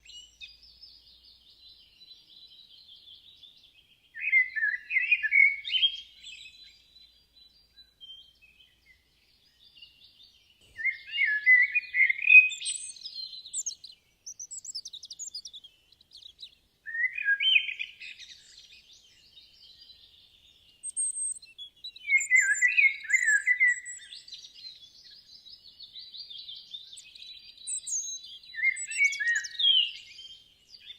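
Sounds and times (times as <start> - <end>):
birds twittering: 0.0 - 30.9
songbird singing warbled phrases: 0.0 - 30.9.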